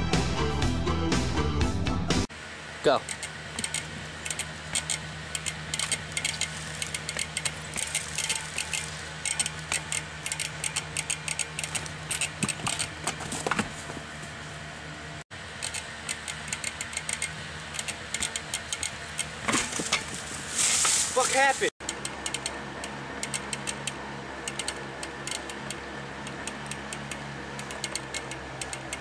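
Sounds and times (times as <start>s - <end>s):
steady low hum: 2.3s - 29.0s
unicycle clicking and rattling on stone: 3.0s - 14.1s, 15.6s - 22.6s, 23.2s - 29.0s.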